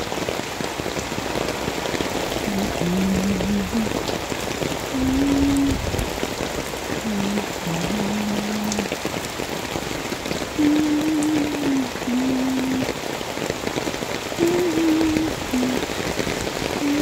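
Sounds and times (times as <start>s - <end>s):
rain on leaves and concrete: 0.0s - 17.0s.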